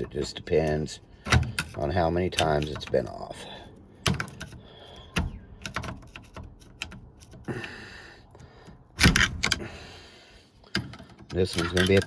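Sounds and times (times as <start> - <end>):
metal pick clicking and scraping: 0.0 - 9.6, 10.6 - 12.0.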